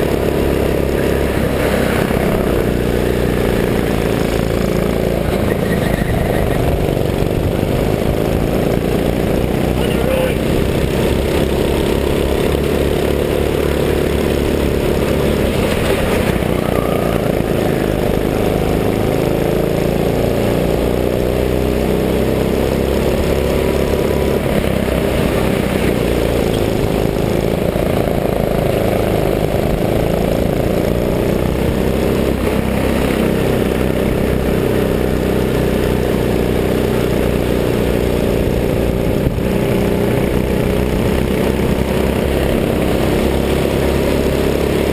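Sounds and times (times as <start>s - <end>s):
go-kart engine revving: 0.0s - 44.9s.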